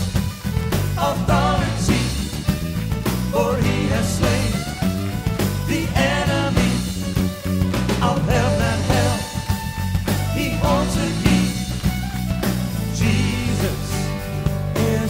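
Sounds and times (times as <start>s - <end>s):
worship song with full band: 0.0s - 15.0s.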